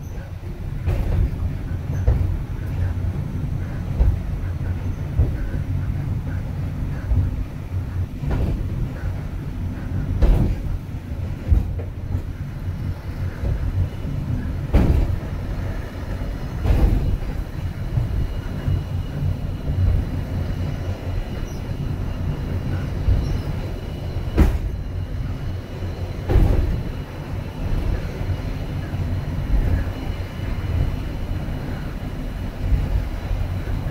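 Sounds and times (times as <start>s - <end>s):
cable car rumbling on rails: 0.0s - 33.9s.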